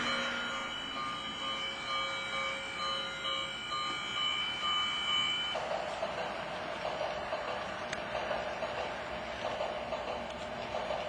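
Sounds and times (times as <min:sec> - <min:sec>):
steady high tones: 0:00.0 - 0:09.2
model train running: 0:00.0 - 0:11.0.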